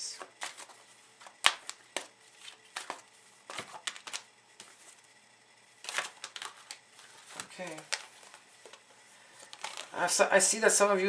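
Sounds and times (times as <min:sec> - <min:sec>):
cards being shuffled: 0:00.0 - 0:05.0, 0:05.8 - 0:10.1.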